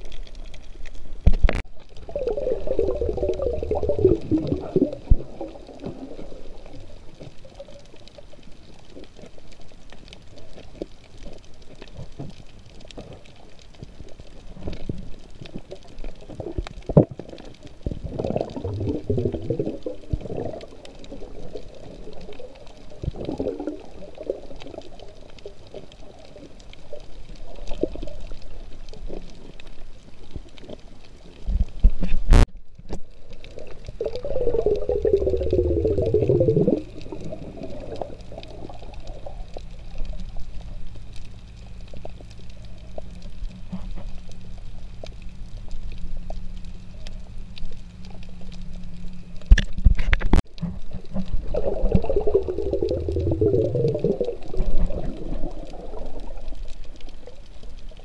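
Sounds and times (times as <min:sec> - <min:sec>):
low underwater rumble: 0:00.0 - 0:58.0
underwater bubbling and gurgling: 0:00.0 - 0:58.0.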